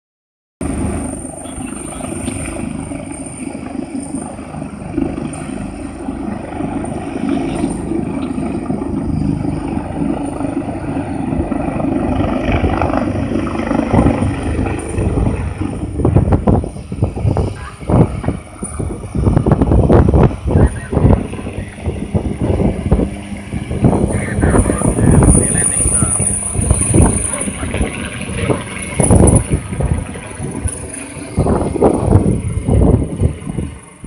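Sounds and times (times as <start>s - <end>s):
helicopter rotor and engine: 0.6s - 34.0s.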